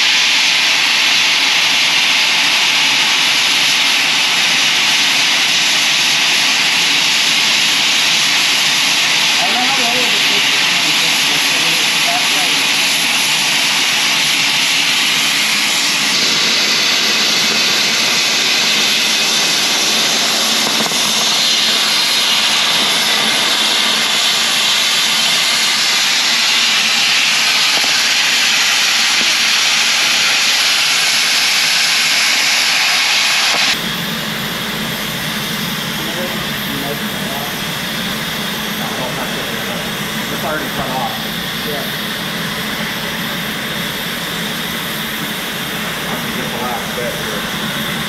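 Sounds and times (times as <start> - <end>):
cutting torch hissing: 0.0 - 48.0.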